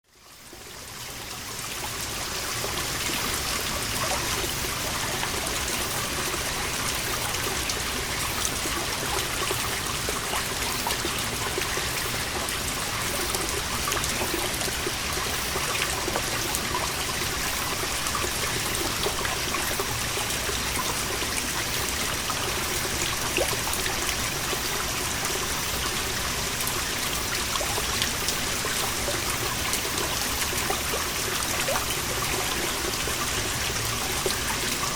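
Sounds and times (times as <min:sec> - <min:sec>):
water trickling: 0:00.2 - 0:34.9.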